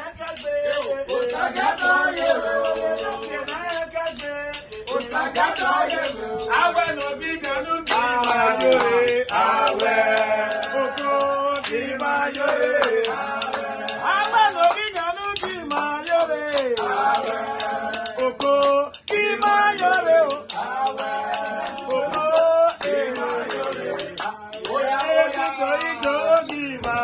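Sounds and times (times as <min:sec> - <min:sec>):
men singing: 0:00.0 - 0:27.0
percussive taps: 0:00.0 - 0:27.0.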